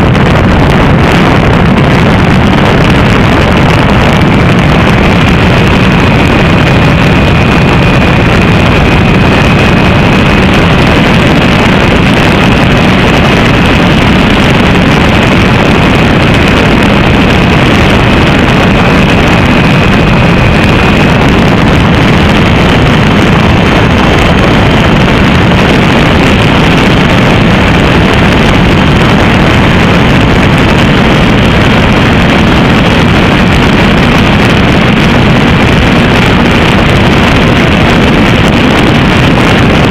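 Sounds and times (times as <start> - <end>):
thin whine: 0.0 - 39.9
wind on microphone: 0.0 - 39.9.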